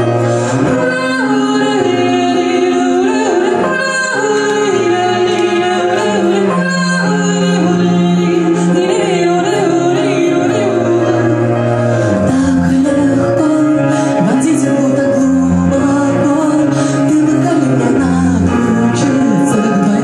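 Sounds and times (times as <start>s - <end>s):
electric piano: 0.0s - 20.0s
woman singing slow song: 0.0s - 20.0s.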